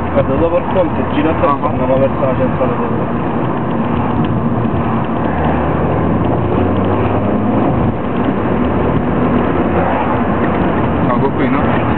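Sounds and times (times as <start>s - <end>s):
car engine running: 0.0s - 11.9s
road noise: 0.0s - 11.9s.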